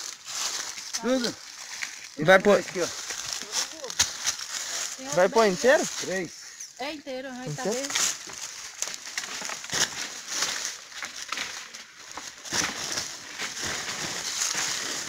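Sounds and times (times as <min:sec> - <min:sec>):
dry leaves crunching underfoot: 0:00.0 - 0:06.4, 0:07.4 - 0:15.0.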